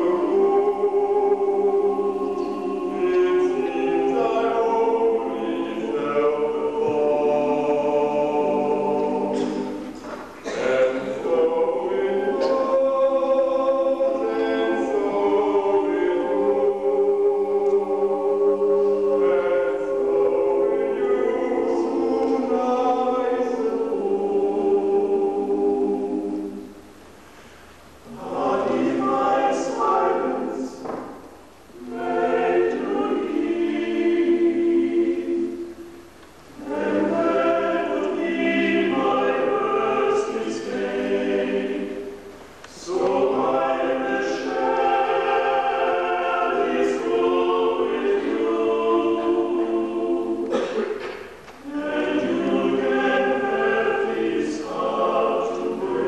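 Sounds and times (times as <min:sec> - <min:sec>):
male vocal ensemble singing: 0:00.0 - 0:26.8, 0:28.0 - 0:56.0.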